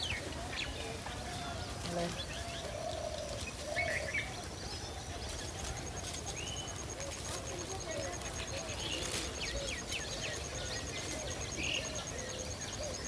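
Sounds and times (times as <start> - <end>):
birds chirping: 0.0 - 13.0
steady background noise: 0.0 - 13.0.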